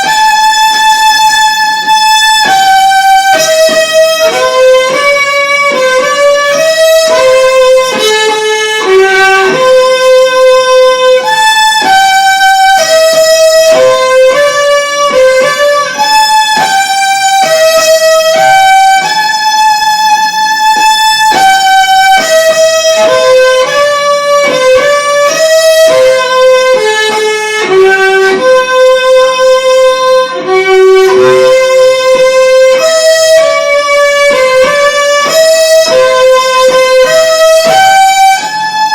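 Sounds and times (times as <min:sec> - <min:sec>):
instrumental melody of held notes: 0:00.0 - 0:38.9.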